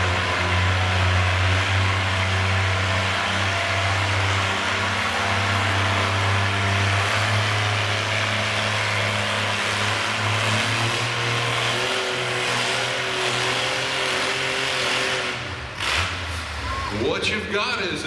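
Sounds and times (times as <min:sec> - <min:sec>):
tractor engine running under load: 0:00.0 - 0:17.2.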